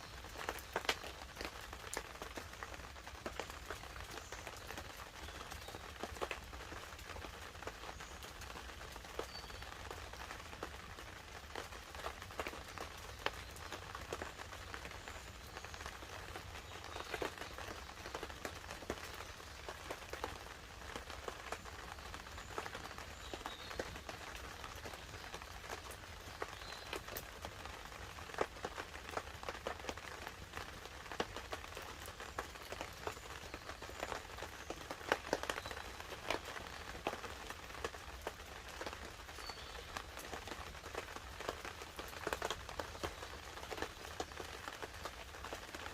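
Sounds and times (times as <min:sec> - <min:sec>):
campfire crackling and popping: 0:00.0 - 0:45.9
rain pattering on a tarp: 0:00.0 - 0:45.9.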